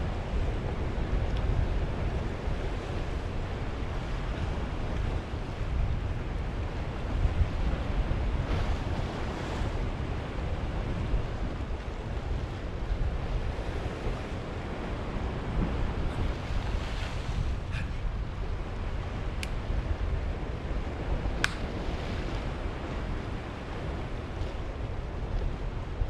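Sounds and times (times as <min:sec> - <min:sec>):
wind rumbling on microphone: 0:00.0 - 0:26.0
waves washing on rocky shore: 0:00.2 - 0:26.0.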